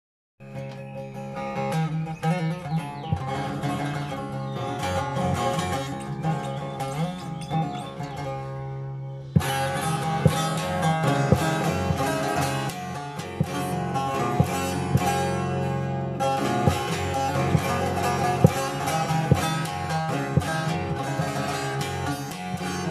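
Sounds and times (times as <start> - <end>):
long-necked lute playing: 0.4 - 22.9.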